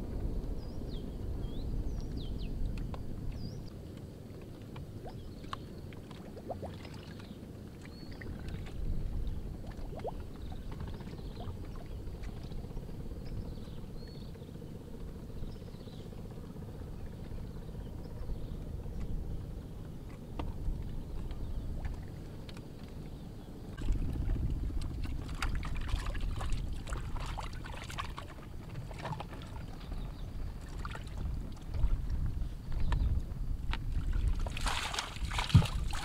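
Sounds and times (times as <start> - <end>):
low water rumble: 0.0 - 36.0.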